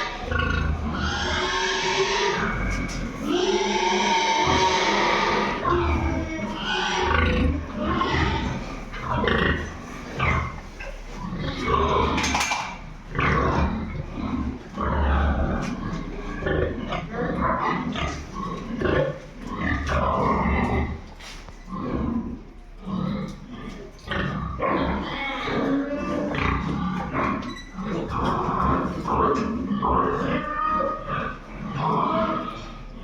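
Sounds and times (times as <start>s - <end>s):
pigs grunting and calling: 0.0s - 33.0s.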